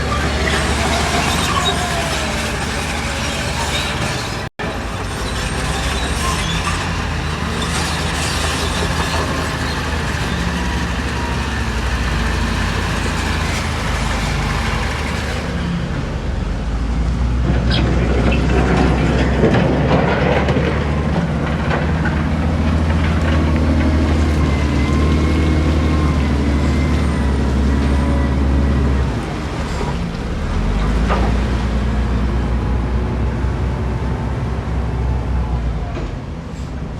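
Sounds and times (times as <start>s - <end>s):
diesel machinery engine drone: 0.0s - 36.9s.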